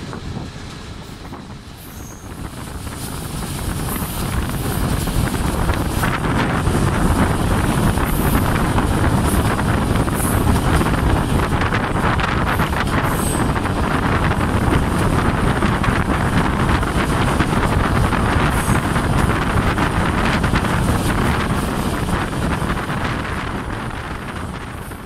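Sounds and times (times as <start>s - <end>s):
train carriages rumbling on rails: 0.0s - 25.0s
wind rushing over microphone: 0.0s - 25.0s.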